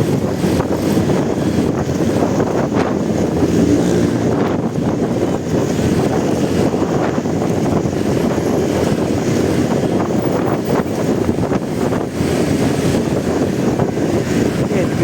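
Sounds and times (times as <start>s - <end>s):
motorcycle engine: 0.0s - 15.0s
road noise: 0.0s - 15.0s
wind buffeting microphone: 0.0s - 15.0s.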